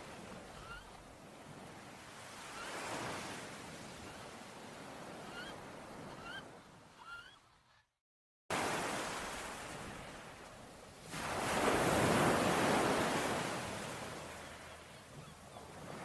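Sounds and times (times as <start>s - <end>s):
ocean surf on a shore: 0.0s - 7.0s, 8.5s - 16.0s.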